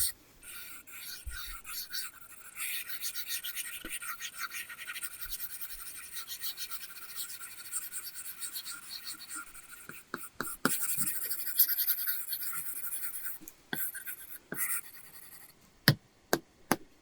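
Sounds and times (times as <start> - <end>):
stylus scratching on screen: 0.0 - 15.6.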